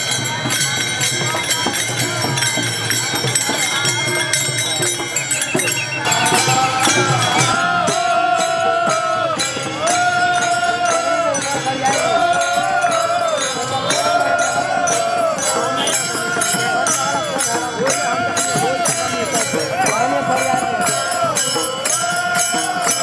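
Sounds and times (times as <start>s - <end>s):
group singing devotional chant: 0.0s - 23.0s
hand cymbals clashing: 0.0s - 23.0s.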